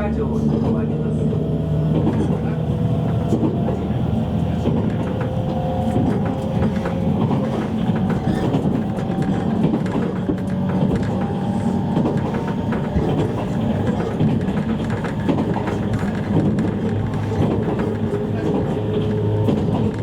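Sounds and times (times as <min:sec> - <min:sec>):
train wheels rumbling on rail: 0:00.0 - 0:20.0
track clicks: 0:01.8 - 0:20.0.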